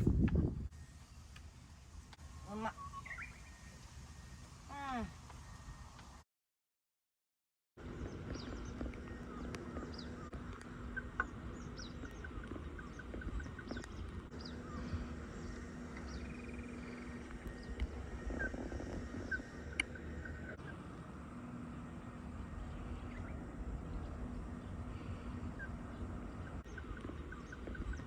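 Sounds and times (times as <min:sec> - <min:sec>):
birds chirping: 0:00.8 - 0:06.0, 0:07.8 - 0:28.0.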